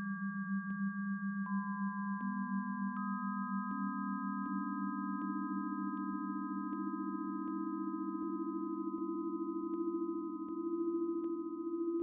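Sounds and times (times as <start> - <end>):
low sine tone cluster: 0.0 - 12.0
steady high sine tones: 0.0 - 12.0.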